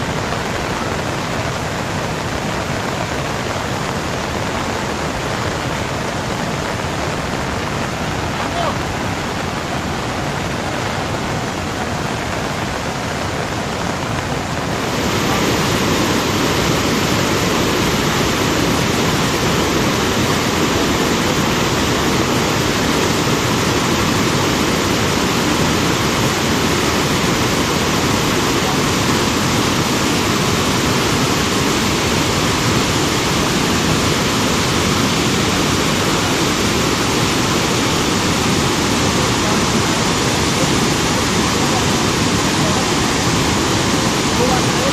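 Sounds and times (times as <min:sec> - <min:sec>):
rushing floodwater roar: 0:00.0 - 0:44.9.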